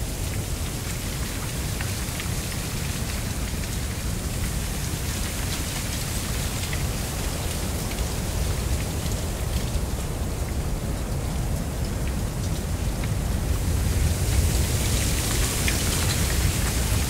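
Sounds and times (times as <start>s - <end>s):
low wind rumble: 0.0s - 17.0s
reeds rustling in wind: 0.0s - 17.0s.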